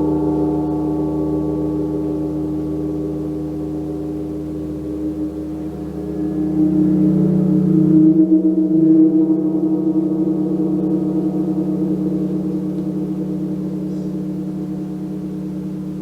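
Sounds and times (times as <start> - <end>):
gong ringing: 0.0 - 16.0.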